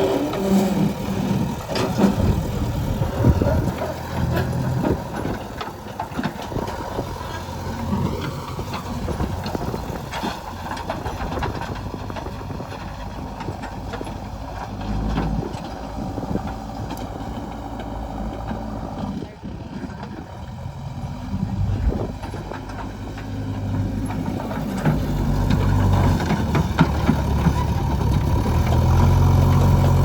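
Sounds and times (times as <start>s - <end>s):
clanks and knocks: 0.0s - 18.7s, 22.0s - 30.0s
diesel engine running: 0.0s - 30.0s.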